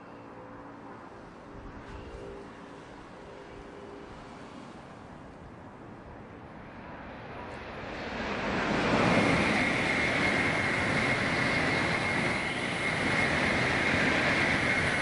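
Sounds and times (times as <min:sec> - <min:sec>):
high-speed train rushing past: 0:00.0 - 0:15.0.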